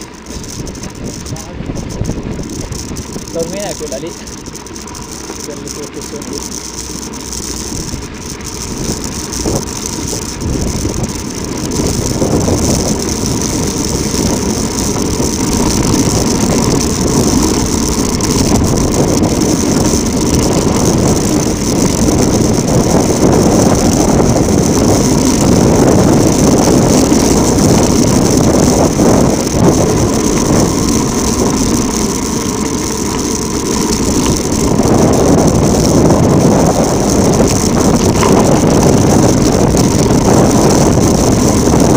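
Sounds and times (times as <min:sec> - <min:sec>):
tyres rattling on rough track: 0:00.0 - 0:41.9
wind buffeting microphone: 0:00.0 - 0:41.9.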